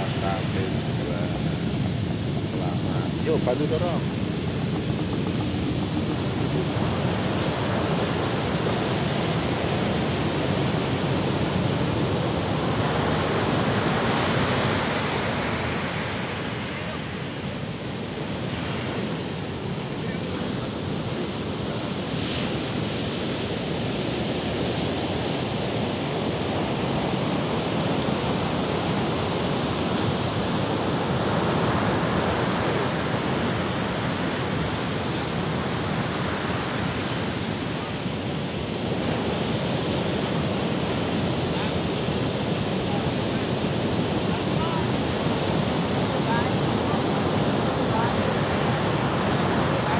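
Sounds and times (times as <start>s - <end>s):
wind buffeting microphone: 0.0s - 49.8s
ocean surf breaking: 0.0s - 49.9s.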